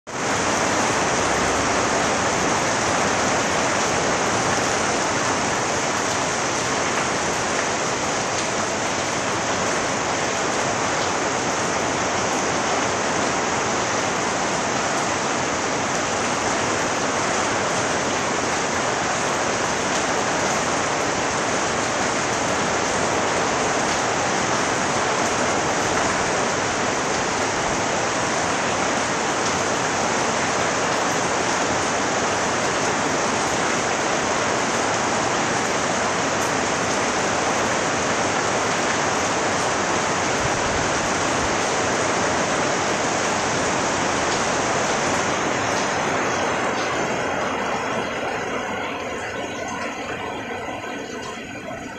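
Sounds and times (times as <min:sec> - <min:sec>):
heavy rain falling: 0:00.1 - 0:51.9.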